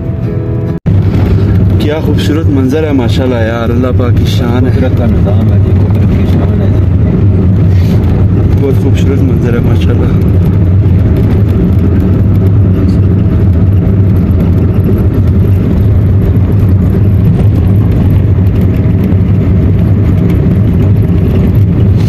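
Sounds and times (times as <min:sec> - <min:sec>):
car driving rumble: 0:00.0 - 0:22.0
road and wind noise: 0:00.0 - 0:22.0.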